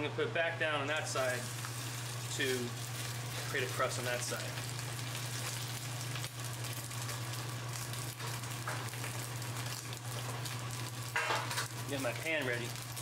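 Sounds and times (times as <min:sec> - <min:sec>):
steak sizzling in skillet: 0:01.0 - 0:13.0.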